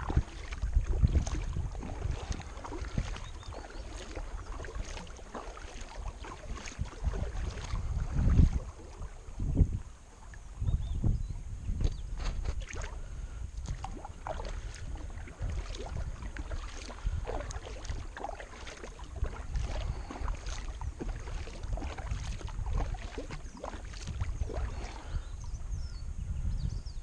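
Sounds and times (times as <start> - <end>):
kayak paddle splashing: 0.0 - 10.7, 12.1 - 25.9.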